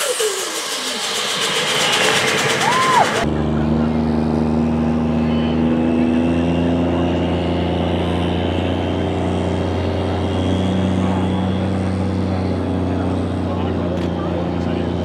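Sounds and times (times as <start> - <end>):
diesel truck engine revving: 0.0 - 15.0
turbo whine: 0.0 - 15.0.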